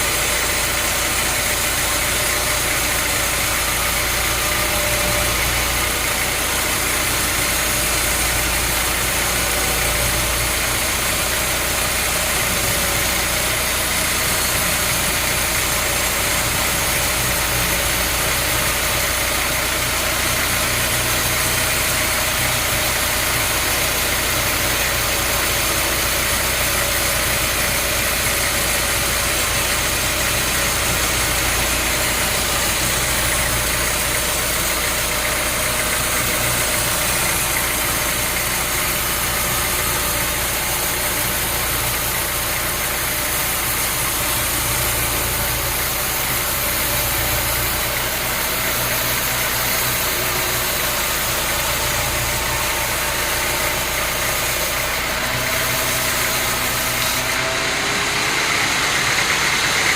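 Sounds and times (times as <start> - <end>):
sawmill engine droning: 0.0 - 59.9.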